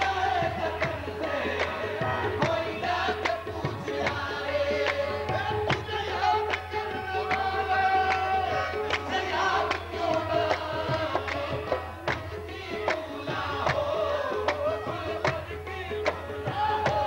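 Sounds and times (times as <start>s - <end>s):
harmonium drone: 0.0s - 17.0s
tabla and percussive strikes: 0.0s - 17.0s.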